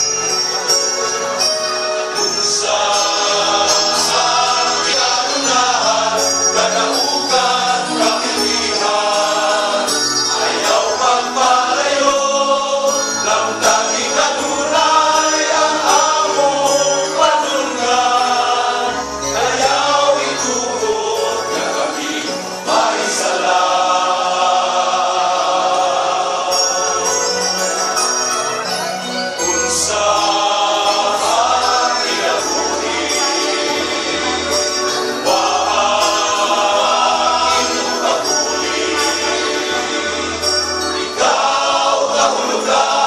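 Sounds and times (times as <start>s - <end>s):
male choir singing a hymn: 2.2s - 27.6s, 29.5s - 43.0s.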